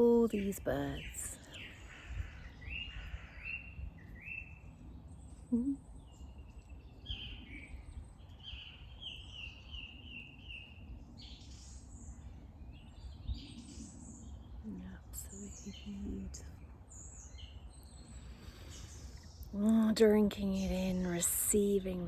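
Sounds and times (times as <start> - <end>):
birds singing: 0.0 - 22.0.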